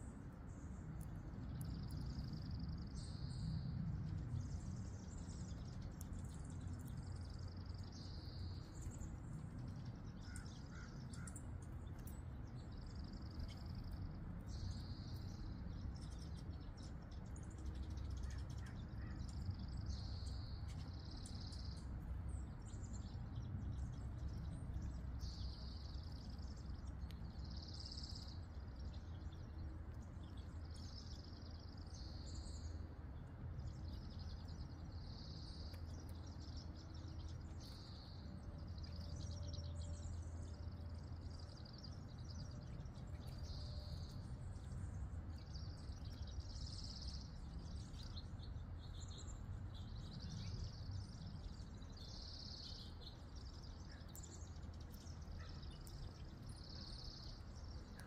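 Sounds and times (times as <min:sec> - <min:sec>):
low background rumble: 0:00.0 - 0:58.0
songbirds chirping: 0:00.0 - 0:58.0.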